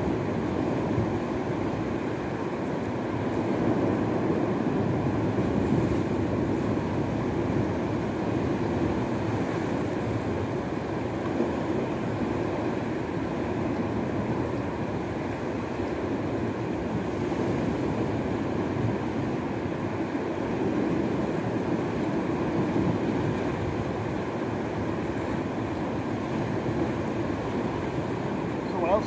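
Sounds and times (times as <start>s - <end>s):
sea: 0.0s - 29.0s
wind: 0.0s - 29.0s.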